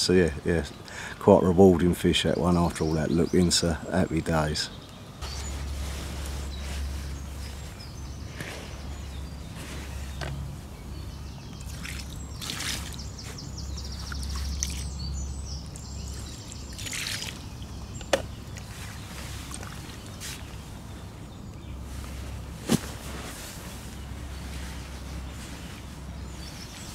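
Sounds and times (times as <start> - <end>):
birds singing: 0.0 - 26.9.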